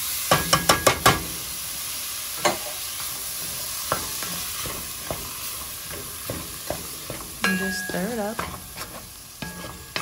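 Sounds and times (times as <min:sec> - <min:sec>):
sausages sizzling in a pot: 0:00.0 - 0:10.0.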